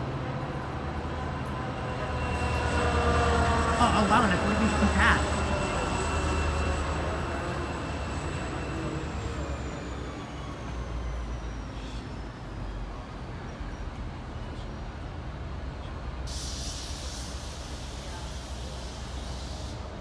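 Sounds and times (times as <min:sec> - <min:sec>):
passenger train rumbling: 0:00.0 - 0:20.0.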